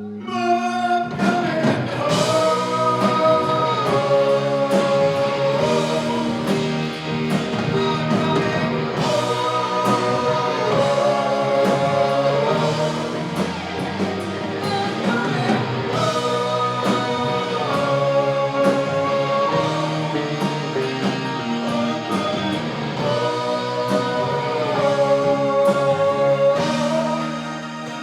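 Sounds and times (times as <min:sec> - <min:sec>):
bass guitar: 0:00.0 - 0:28.0
electric guitar: 0:00.0 - 0:28.0
drums: 0:00.3 - 0:28.0
rock band playing: 0:00.5 - 0:28.0.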